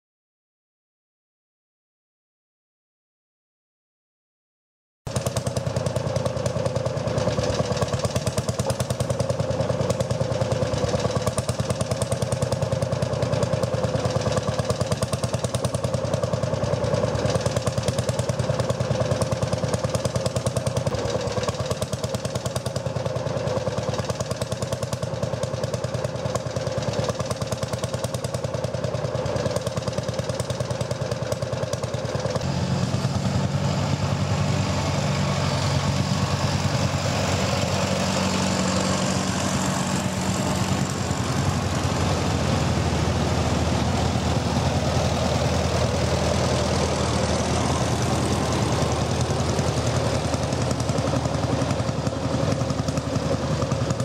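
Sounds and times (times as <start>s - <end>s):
smoother tractor engine running: 5.1s - 54.0s
tractor engine idling: 5.1s - 54.0s.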